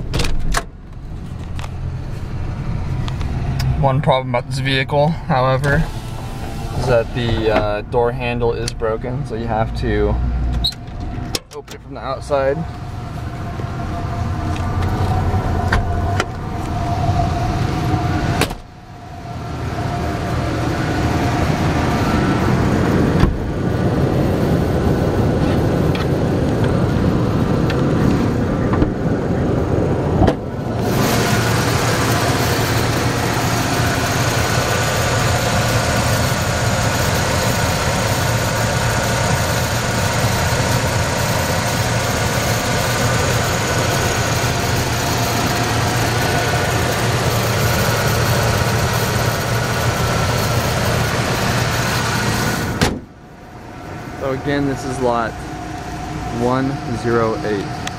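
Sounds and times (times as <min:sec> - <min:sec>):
pickup engine idling: 0:00.8 - 0:57.9.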